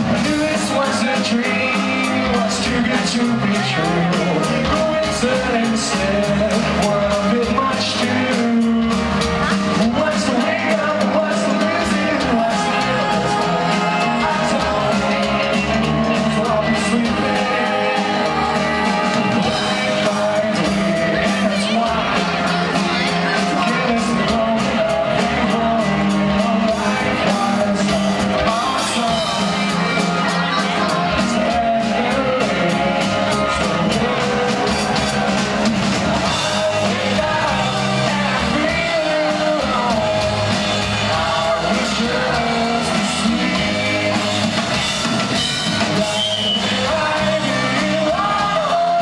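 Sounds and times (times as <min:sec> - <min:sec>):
live rock band playing: 0:00.0 - 0:49.0
person singing: 0:00.0 - 0:49.0.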